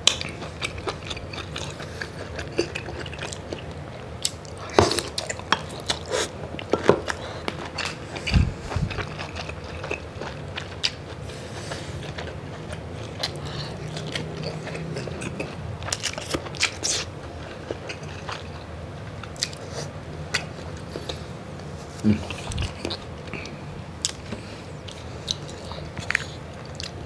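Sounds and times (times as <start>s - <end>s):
person chewing with wet smacks: 0.0s - 21.1s, 21.9s - 27.0s.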